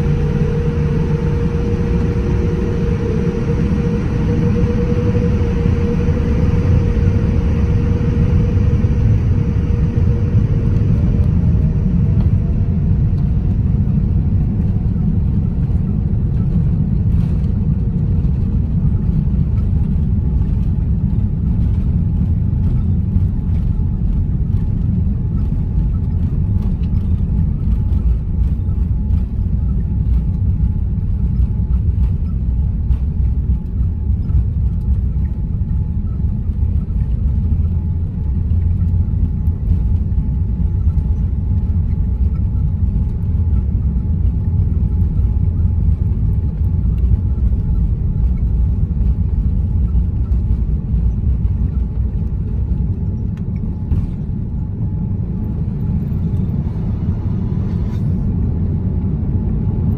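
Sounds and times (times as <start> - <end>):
faint high whine: 0.0 - 58.9
engines and wheels rumbling: 0.0 - 59.9.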